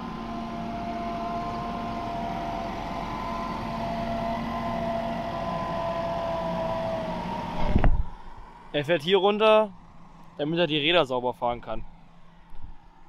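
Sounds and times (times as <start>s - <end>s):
tractor engine running with whine: 0.0s - 13.0s.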